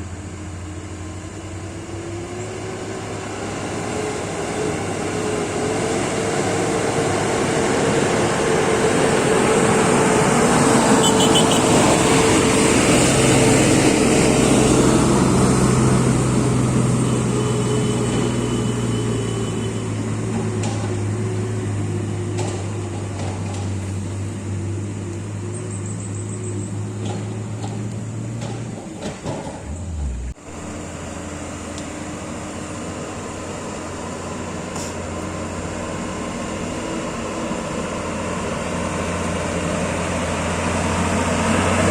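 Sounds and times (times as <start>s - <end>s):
heavy diesel engine running: 0.0s - 25.7s, 26.4s - 41.9s.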